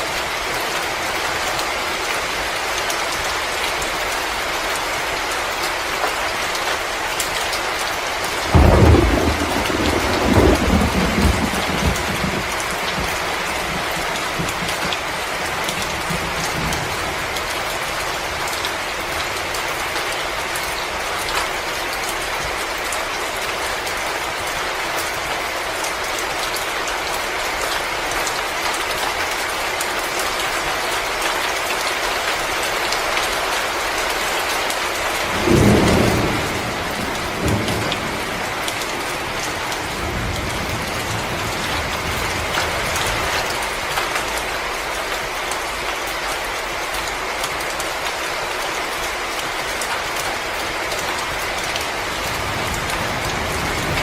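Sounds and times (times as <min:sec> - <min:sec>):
rain-like hiss: 0:00.0 - 0:54.0.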